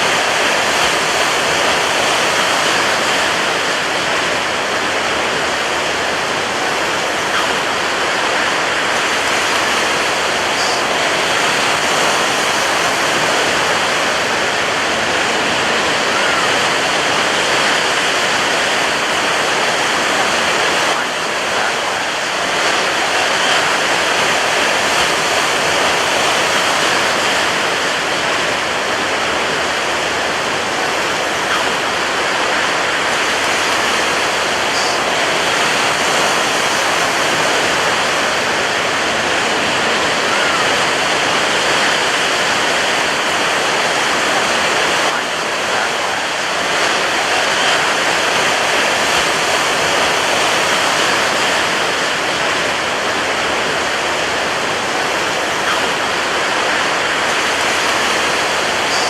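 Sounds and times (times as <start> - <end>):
heavy surf breaking: 0.0 - 59.0.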